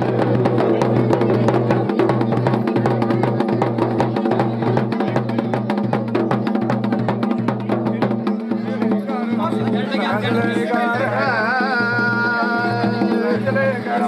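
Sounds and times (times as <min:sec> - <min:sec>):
fast dense percussion: 0:00.0 - 0:14.0.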